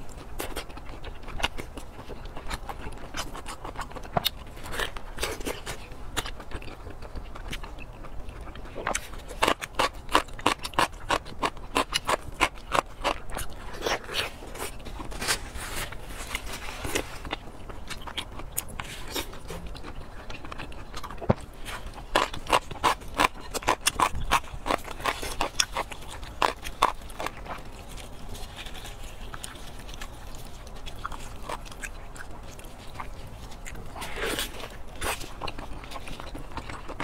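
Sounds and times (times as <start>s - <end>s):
close chewing and biting: 0.0s - 37.0s.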